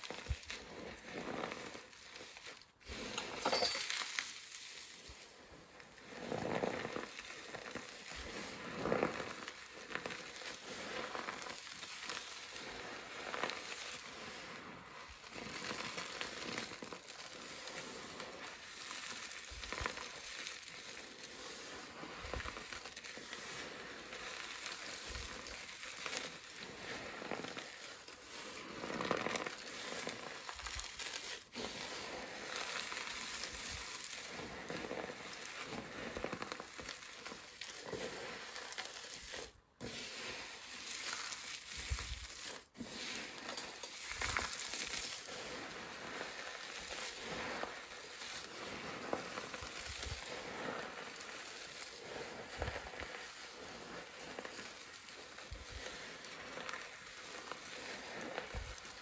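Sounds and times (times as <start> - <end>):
hands crunching dry soap fragments: 6.0 - 59.0.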